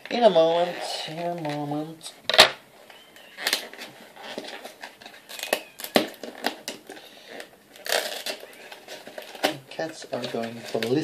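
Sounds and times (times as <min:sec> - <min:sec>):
plastic rustling and crinkling: 0:00.0 - 0:11.0.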